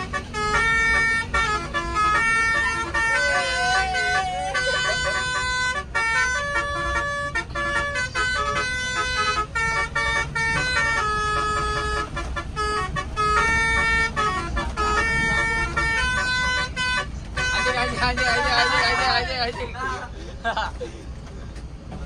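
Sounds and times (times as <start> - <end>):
musical bus air horn: 0.0 - 20.4.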